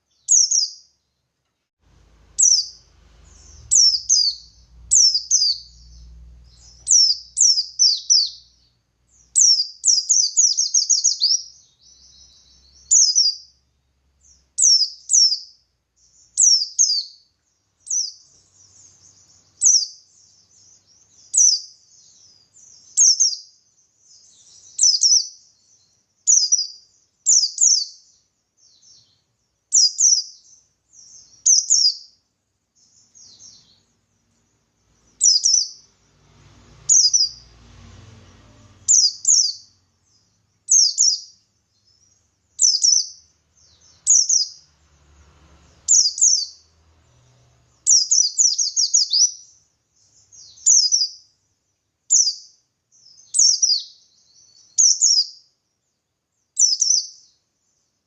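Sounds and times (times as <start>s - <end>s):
bird singing high chirps: 0.0s - 1.3s, 2.2s - 32.2s, 32.8s - 58.0s.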